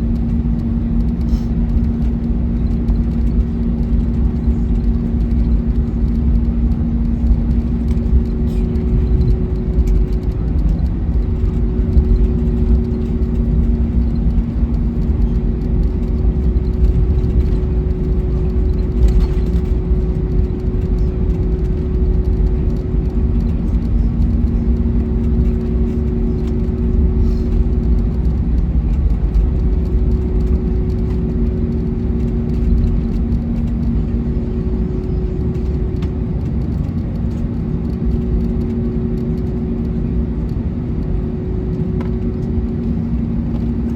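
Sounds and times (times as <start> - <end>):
aircraft cabin rumble: 0.0 - 43.9.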